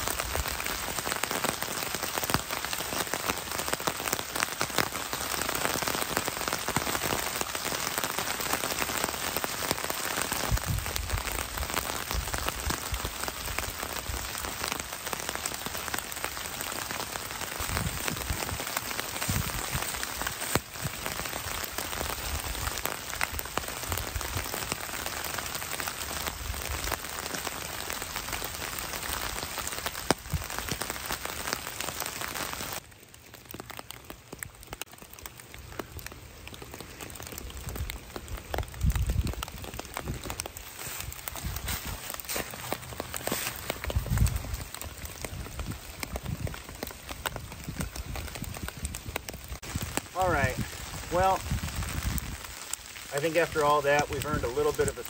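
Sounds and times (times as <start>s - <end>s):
rain falling in woods: 0.0s - 55.0s.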